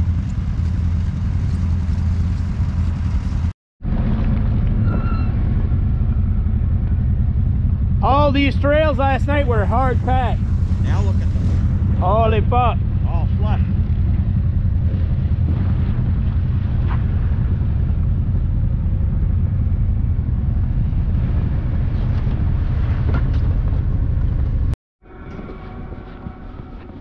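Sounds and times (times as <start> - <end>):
atv engine droning: 0.0 - 27.0
quieter engine: 0.0 - 27.0.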